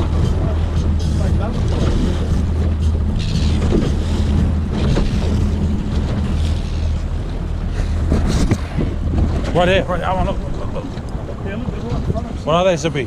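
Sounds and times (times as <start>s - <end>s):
boat motor running: 0.0s - 13.0s
water rushing along hull: 0.0s - 13.0s
wind on microphone: 0.0s - 13.0s.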